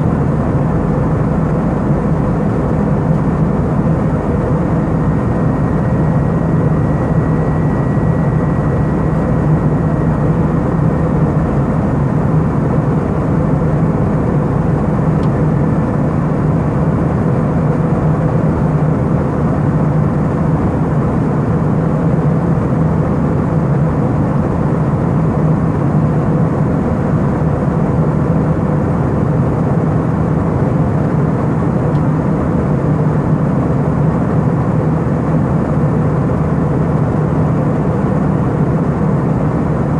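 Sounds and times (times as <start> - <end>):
jet engine and airflow drone: 0.0 - 39.9.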